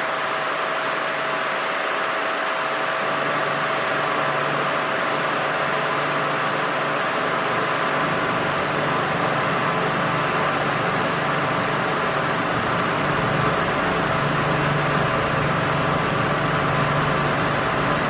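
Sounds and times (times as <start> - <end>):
wall fan running: 0.0 - 18.0.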